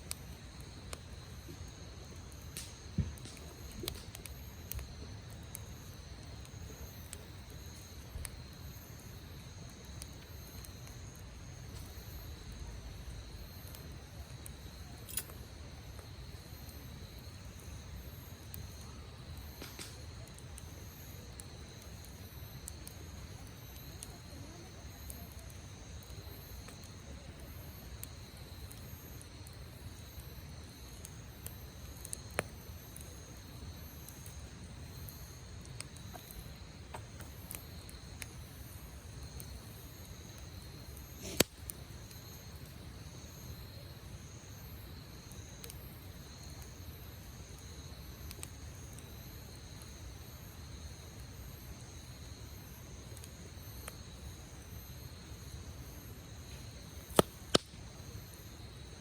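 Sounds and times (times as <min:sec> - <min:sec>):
campfire crackling: 0:00.0 - 0:59.0
fire popping: 0:00.0 - 0:59.0
insects chirping: 0:00.0 - 0:59.0.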